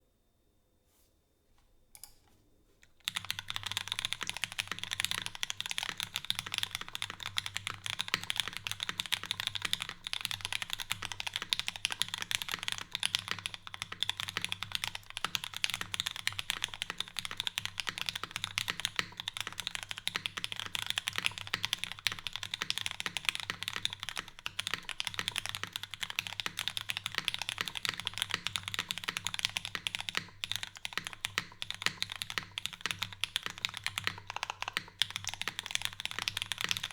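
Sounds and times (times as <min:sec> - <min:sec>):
mechanical keyboard typing: 0:03.0 - 0:36.9.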